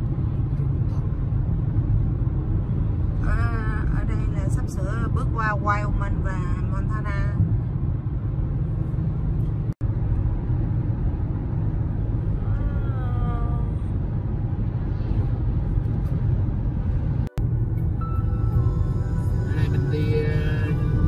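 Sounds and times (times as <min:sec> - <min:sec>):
car road rumble from cabin: 0:00.0 - 0:21.0.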